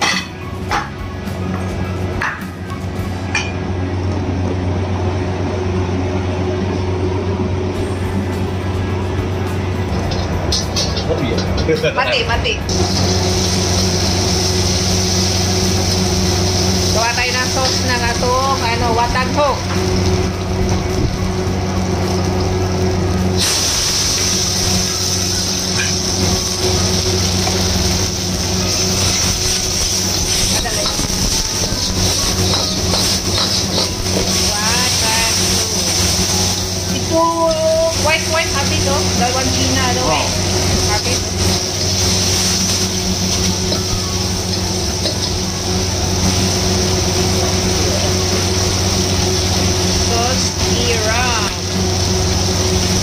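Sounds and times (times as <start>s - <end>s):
steady low hum: 0.0s - 53.0s
meat sizzling in a wok: 9.2s - 53.0s.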